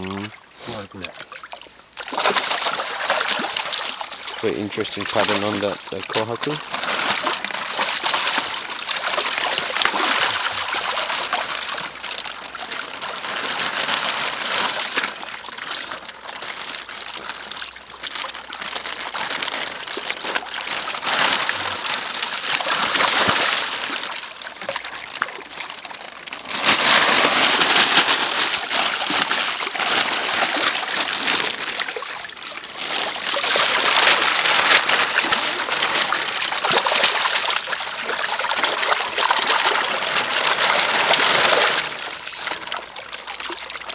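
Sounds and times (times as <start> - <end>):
fish thrashing in water: 0.0 - 43.9.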